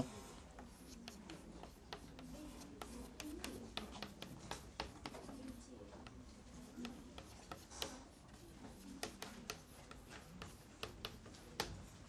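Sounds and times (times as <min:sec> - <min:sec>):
chalk tapping on a chalkboard: 0:00.5 - 0:12.0.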